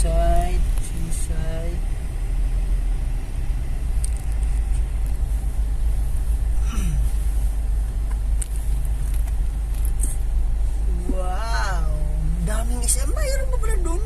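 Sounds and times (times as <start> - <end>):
car driving rumble inside cabin: 0.0 - 14.0.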